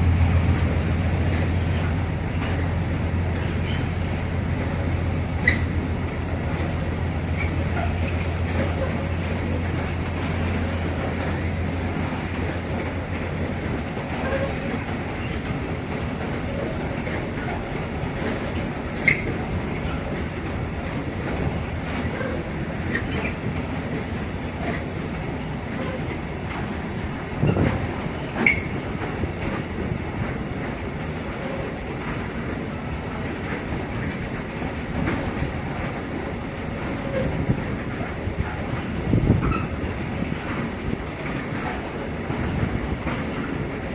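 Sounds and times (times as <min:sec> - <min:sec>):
freight train rolling past: 0:00.0 - 0:43.9.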